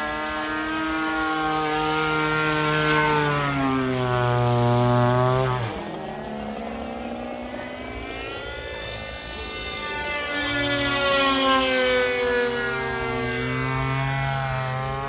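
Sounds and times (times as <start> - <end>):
model airplane engine in flight: 0.0 - 15.0.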